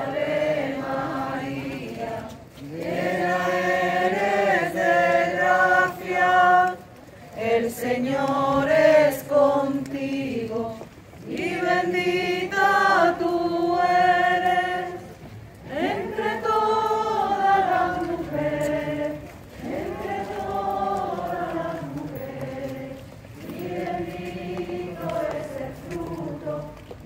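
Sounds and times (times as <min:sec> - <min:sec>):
group singing in unison: 0:00.0 - 0:27.0.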